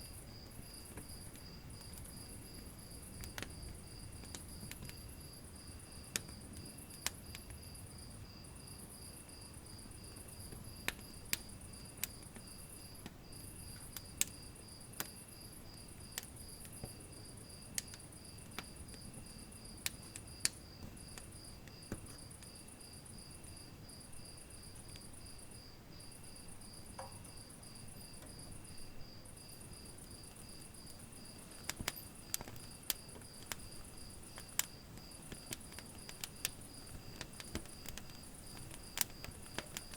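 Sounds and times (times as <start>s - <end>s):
fire crackling and popping: 0.0s - 39.9s
insect chirping: 0.0s - 39.9s
low rumble of flames: 0.0s - 39.9s.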